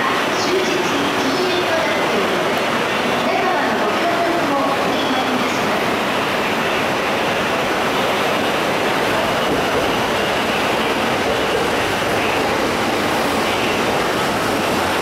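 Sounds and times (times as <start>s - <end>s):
electric train rolling in: 0.0s - 15.0s.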